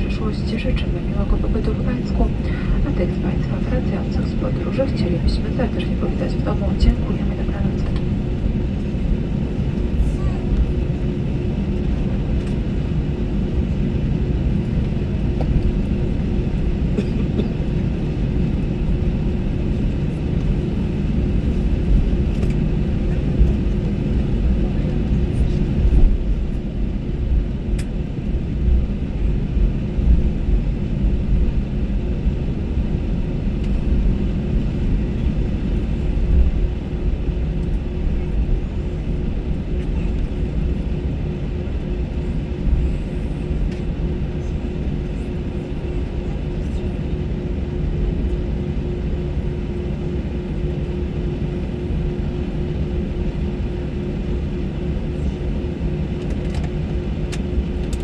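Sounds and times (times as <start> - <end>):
aircraft cabin rumble and hum: 0.0 - 58.0.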